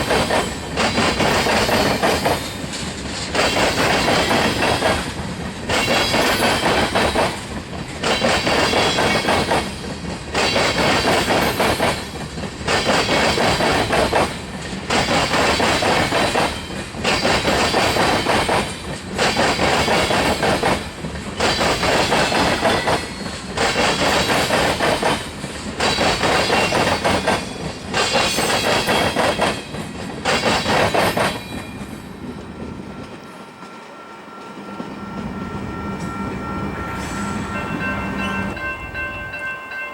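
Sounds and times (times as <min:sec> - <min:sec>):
train rumble: 0:00.0 - 0:39.9
train wheels clattering over crossing: 0:00.0 - 0:39.9.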